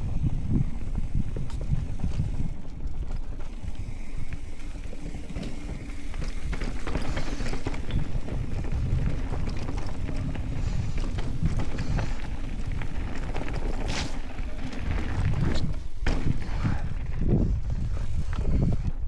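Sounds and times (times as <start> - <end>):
bike clatter and rattle: 0.0 - 19.0
bike tyres rolling on dirt: 0.0 - 19.0
wind buffeting microphone: 0.0 - 19.0.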